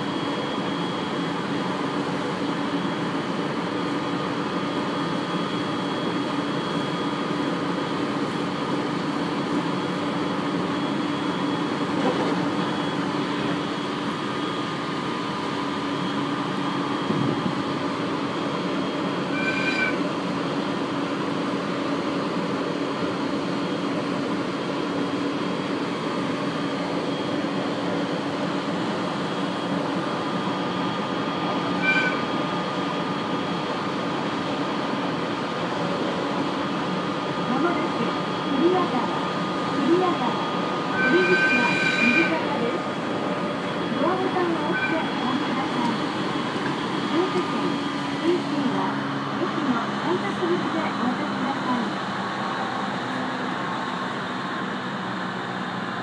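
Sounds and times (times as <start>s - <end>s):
constant hum: 0.0s - 56.0s
train wheels rumbling on rail: 0.0s - 56.0s.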